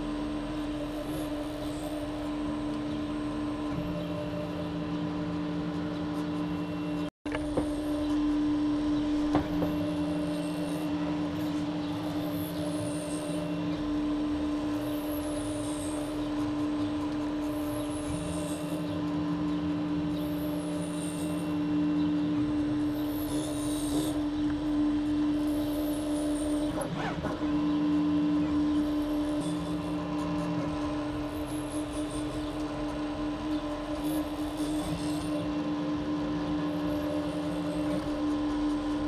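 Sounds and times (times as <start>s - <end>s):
low motor tone: 0.0s - 39.0s
printer fans and motors humming: 0.0s - 39.0s.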